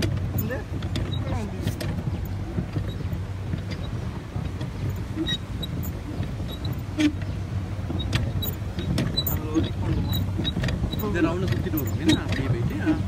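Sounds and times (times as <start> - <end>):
motorboat engine drone: 0.0 - 13.0.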